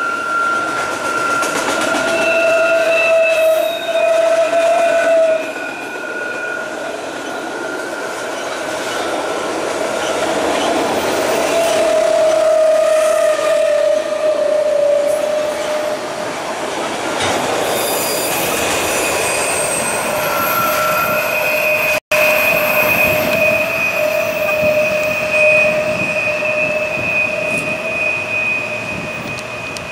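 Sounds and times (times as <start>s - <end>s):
train wheels squealing: 0.0s - 16.2s, 17.6s - 29.9s
train rumble: 0.0s - 29.9s.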